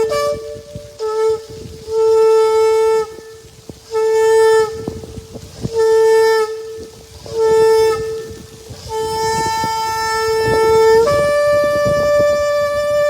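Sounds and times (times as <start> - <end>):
ram's horn blasts: 0.0 - 13.0.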